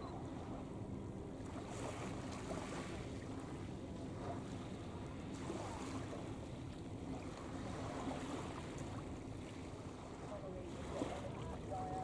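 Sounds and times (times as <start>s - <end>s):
faint low hum: 0.0s - 12.0s
water lapping: 0.2s - 12.0s.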